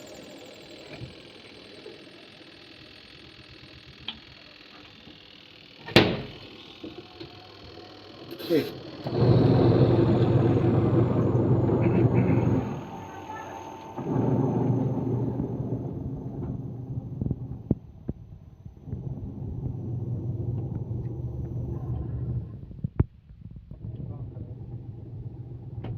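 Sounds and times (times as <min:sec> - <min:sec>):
washing machine motor humming: 0:00.0 - 0:23.0, 0:23.8 - 0:25.9.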